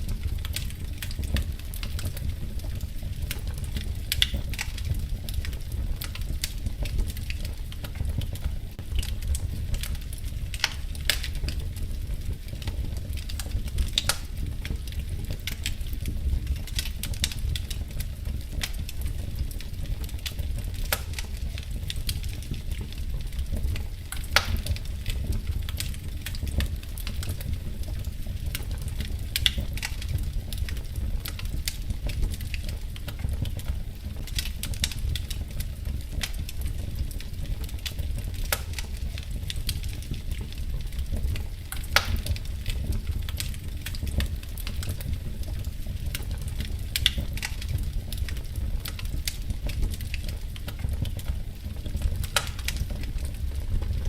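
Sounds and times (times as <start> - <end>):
fire low rumble: 0.0 - 54.0
wood fire pops and snaps: 0.0 - 54.0.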